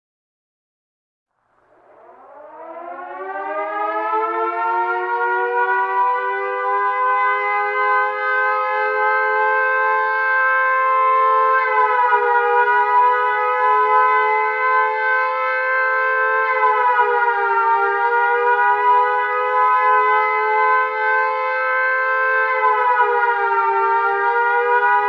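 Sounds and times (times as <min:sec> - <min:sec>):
two-tone siren wail: 0:01.6 - 0:25.0.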